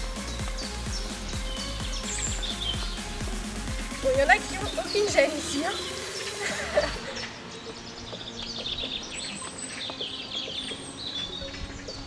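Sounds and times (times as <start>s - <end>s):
birds chirping and trilling: 0.0s - 12.0s.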